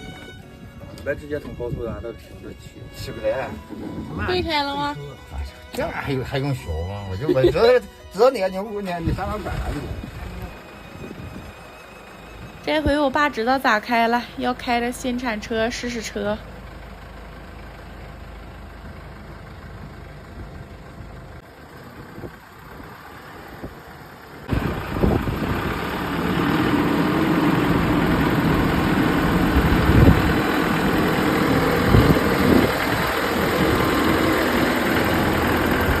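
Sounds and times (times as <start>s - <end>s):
loader diesel engine revving: 2.6s - 36.0s.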